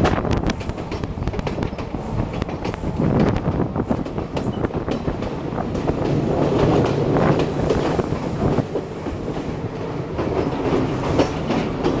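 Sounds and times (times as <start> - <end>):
train rumbling: 0.0 - 12.0
wheels clicking over rails: 0.0 - 12.0.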